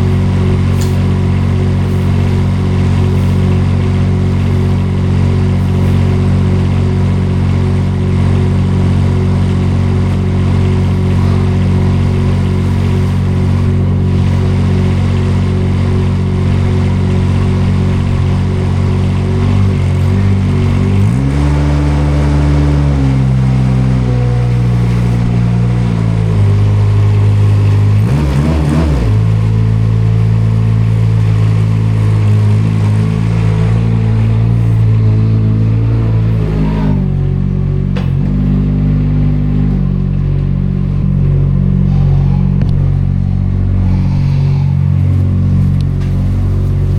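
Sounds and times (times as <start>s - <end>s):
front loader engine running: 0.0s - 46.9s.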